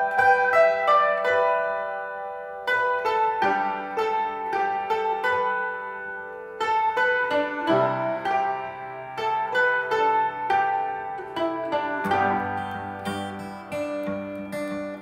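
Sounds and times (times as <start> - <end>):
plucked string tune: 0.0 - 15.0.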